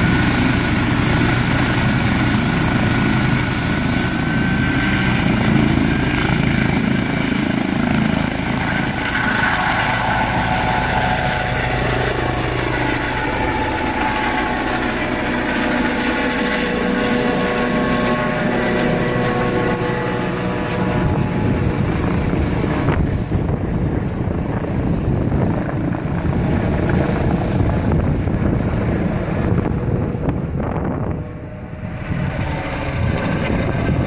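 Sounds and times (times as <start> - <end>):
helicopter rotor: 0.0 - 34.0
high turbine whine: 0.0 - 34.0.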